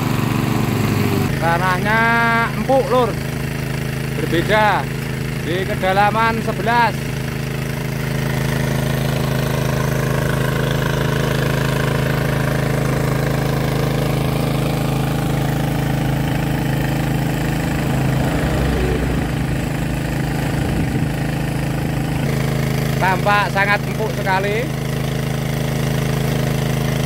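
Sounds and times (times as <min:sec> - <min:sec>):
petrol water pump running: 0:00.0 - 0:27.0.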